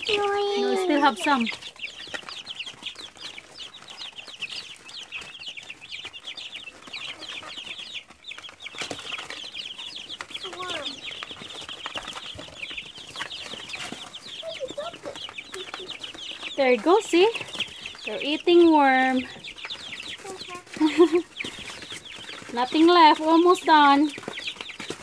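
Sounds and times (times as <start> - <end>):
baby chicks peeping: 0.0 - 25.0.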